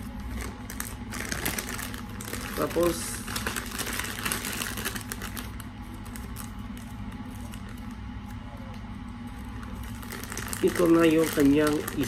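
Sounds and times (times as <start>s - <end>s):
plastic bags crinkling: 0.0s - 8.1s, 9.3s - 12.0s
low steady hum: 0.0s - 12.0s.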